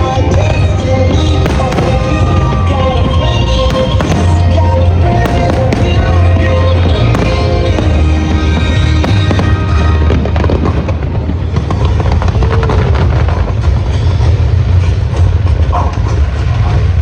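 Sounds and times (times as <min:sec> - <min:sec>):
fireworks crackling and popping: 0:00.0 - 0:17.0
low rumble: 0:00.3 - 0:17.0.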